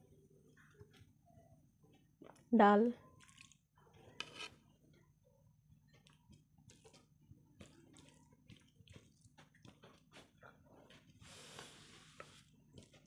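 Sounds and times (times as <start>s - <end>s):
fingers mixing rice wet squishes: 1.9s - 13.0s.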